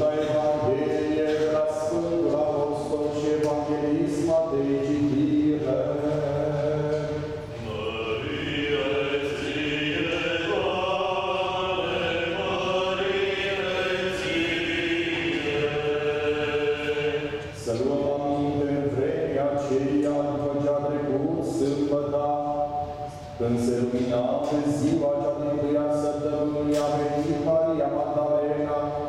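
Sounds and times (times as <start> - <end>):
man chanting: 0.0 - 29.0.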